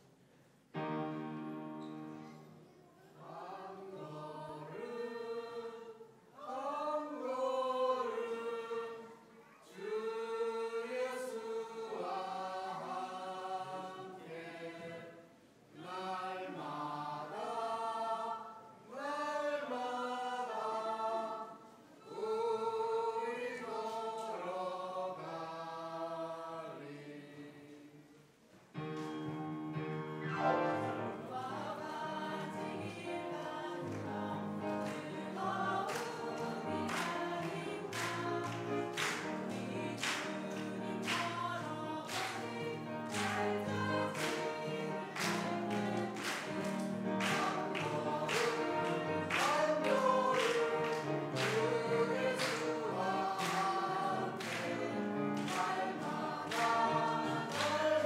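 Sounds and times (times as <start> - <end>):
choir singing a hymn: 0.8 - 2.4, 3.1 - 28.3, 29.1 - 58.0.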